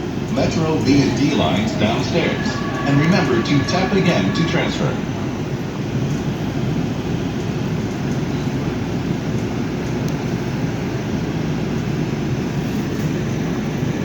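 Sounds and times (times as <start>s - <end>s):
train car low rumble: 0.0s - 14.0s.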